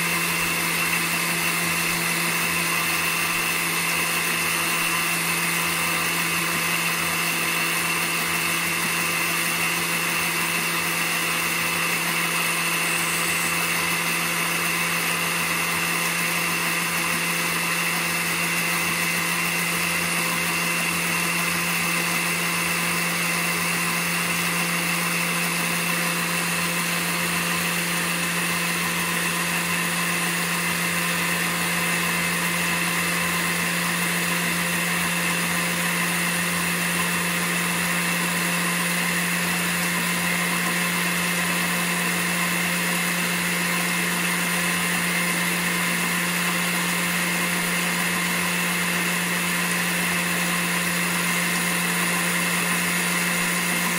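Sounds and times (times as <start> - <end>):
blender motor humming: 0.0 - 53.9.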